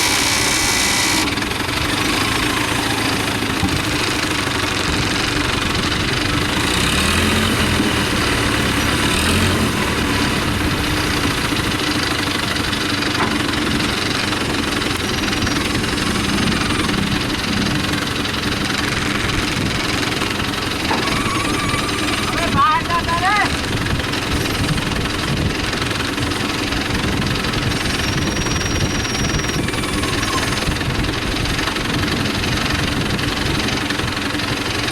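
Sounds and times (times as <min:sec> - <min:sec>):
construction vehicle engine idling: 0:00.0 - 0:34.9.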